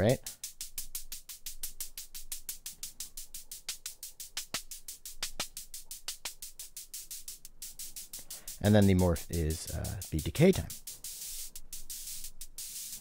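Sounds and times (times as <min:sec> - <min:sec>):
synthesized hi-hat ticks: 0:00.0 - 0:13.0.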